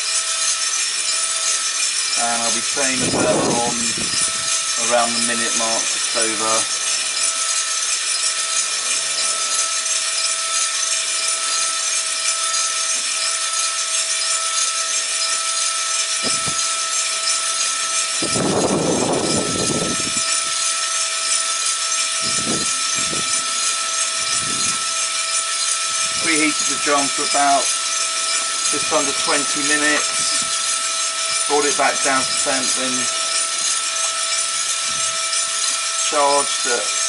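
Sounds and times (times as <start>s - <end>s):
coffee beans rattling in drum: 0.0s - 37.0s
drum motor and fan hum: 0.0s - 37.0s.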